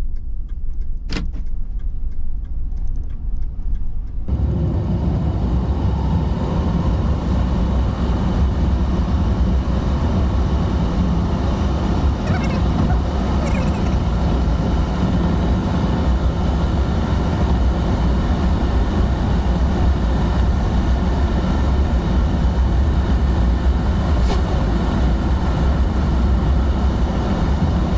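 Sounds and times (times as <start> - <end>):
road and tyre rumble in car: 0.0 - 27.9.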